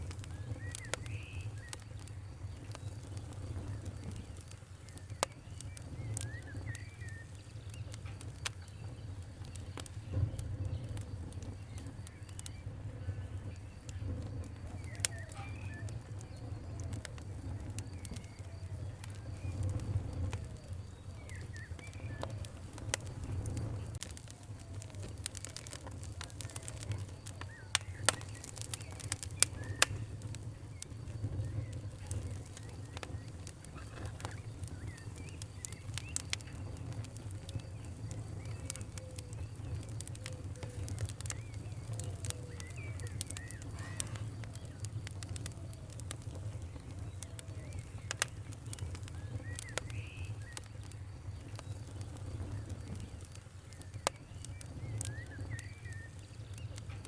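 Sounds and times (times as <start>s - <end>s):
wood fire crackling: 0.0s - 57.0s
bird chirping: 0.1s - 57.0s.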